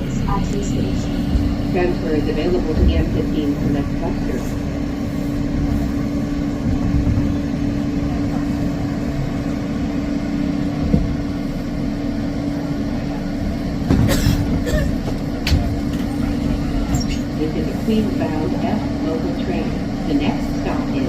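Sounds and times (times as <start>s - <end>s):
subway car hum: 0.0s - 21.0s.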